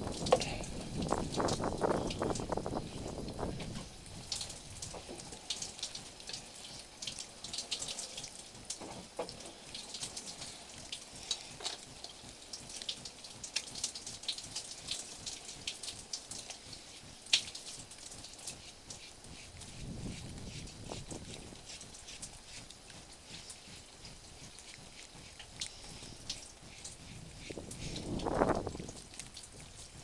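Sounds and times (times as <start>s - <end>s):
light patter of small ticks: 0.1s - 30.0s.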